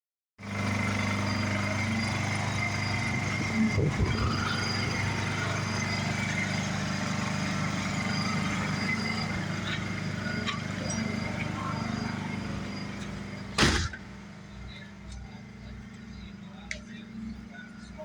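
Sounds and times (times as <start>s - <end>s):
generator engine humming: 0.4s - 18.0s.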